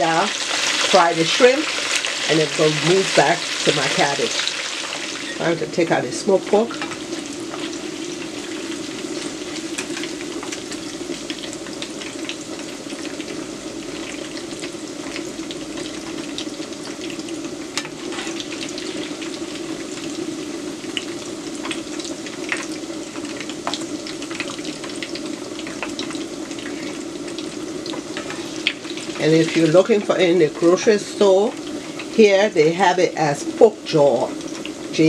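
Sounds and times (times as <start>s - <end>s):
oil popping and crackling: 0.0s - 32.6s, 33.5s - 35.0s
pork frying in oil: 0.0s - 35.0s.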